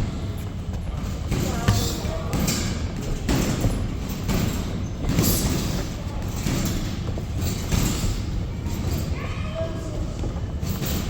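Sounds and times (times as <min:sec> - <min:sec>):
feet on ring canvas: 0:00.0 - 0:09.2
rumble of gym noise: 0:00.0 - 0:11.0.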